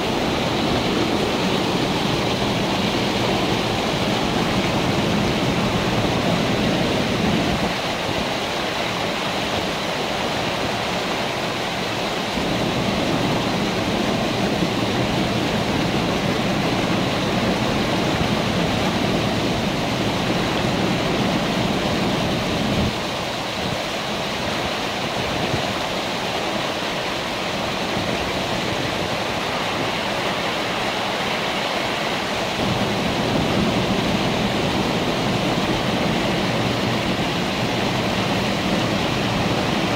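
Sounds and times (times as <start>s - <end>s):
river water rushing over dam: 0.0s - 39.9s.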